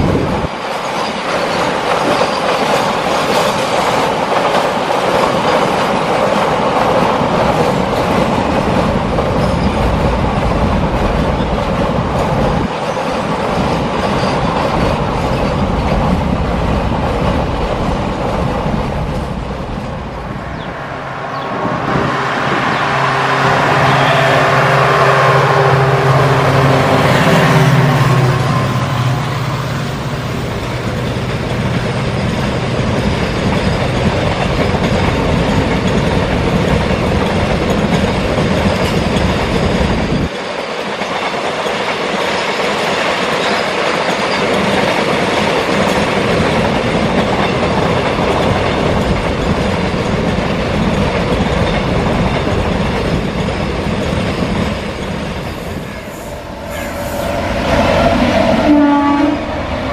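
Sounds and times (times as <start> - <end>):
train wheels clattering on rails: 0.0 - 20.7, 25.2 - 59.9
diesel locomotive engine drone: 0.0 - 59.9.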